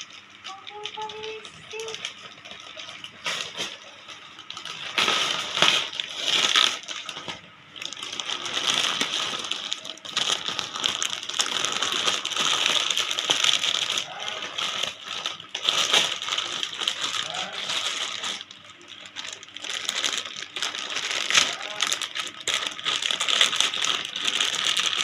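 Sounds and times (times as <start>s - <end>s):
wrapping paper rustling and tearing: 0.0s - 25.0s.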